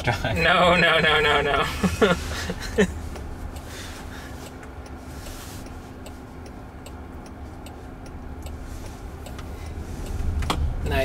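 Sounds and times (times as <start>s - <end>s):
low cabin hum: 0.0s - 11.0s
turn signal ticking: 0.0s - 11.0s.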